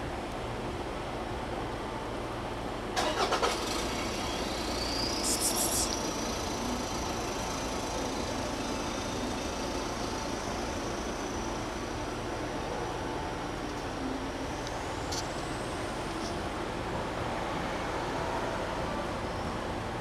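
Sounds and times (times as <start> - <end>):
street traffic hum: 0.0 - 20.0
vehicle high whine: 0.0 - 20.0.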